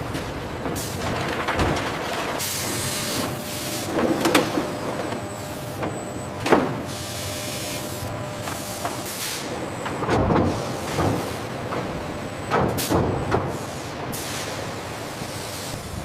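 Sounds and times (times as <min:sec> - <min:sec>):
factory machinery running: 0:00.0 - 0:16.0.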